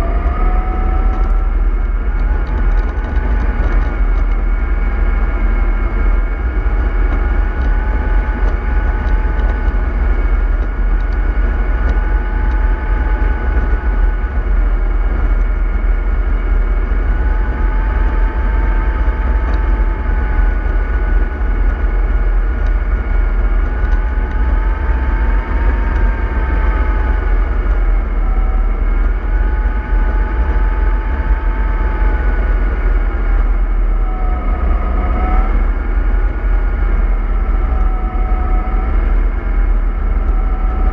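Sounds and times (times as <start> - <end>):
bus engine rumble: 0.0 - 40.9
transmission whine: 0.0 - 40.9.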